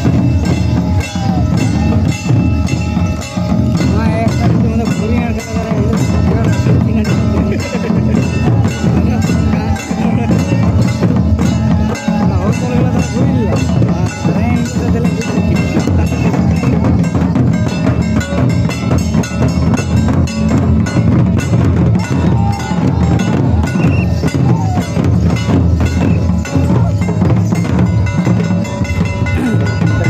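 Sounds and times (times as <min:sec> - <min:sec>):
hand-beaten barrel drums: 0:00.0 - 0:30.0.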